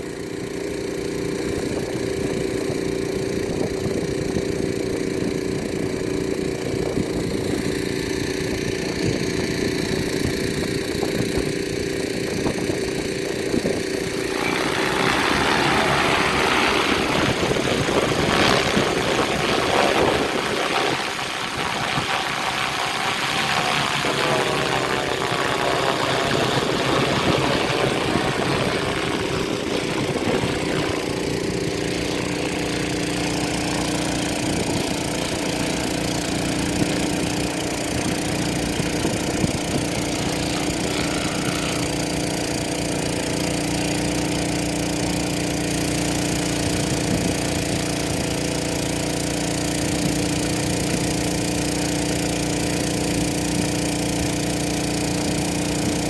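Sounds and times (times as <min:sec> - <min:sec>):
drone rotors humming: 0:00.0 - 0:45.4.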